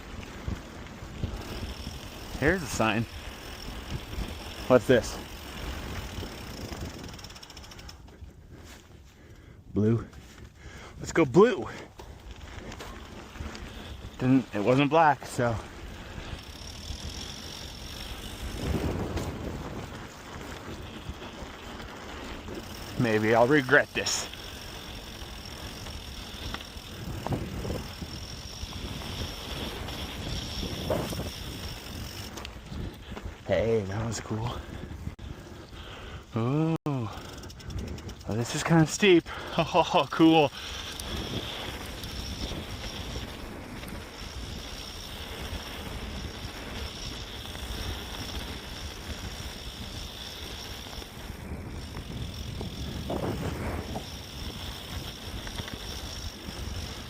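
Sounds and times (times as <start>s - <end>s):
wind buffeting microphone: 0.0s - 36.3s, 37.0s - 39.5s, 40.4s - 57.0s
bike tyres rumbling on dirt trail: 0.0s - 57.0s.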